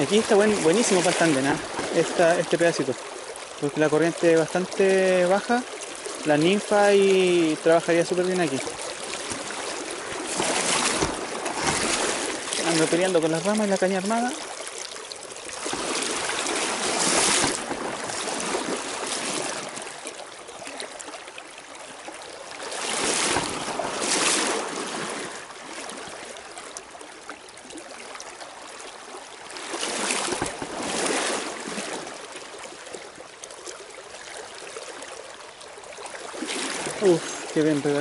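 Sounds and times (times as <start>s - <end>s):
river rushing over stones: 0.0s - 27.1s, 28.4s - 33.0s, 36.0s - 38.0s.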